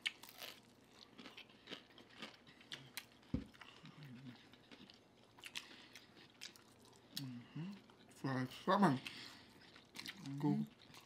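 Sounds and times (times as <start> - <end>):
chewing and crunching: 0.0 - 11.0.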